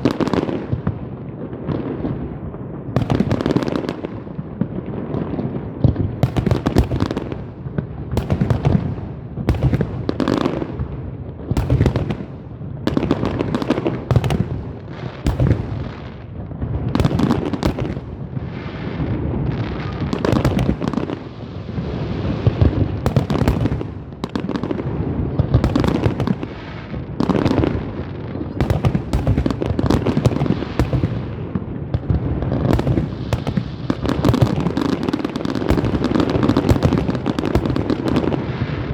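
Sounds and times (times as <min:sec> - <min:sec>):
fireworks bangs and booms: 0:00.0 - 0:38.9
fireworks crackling: 0:00.0 - 0:38.9.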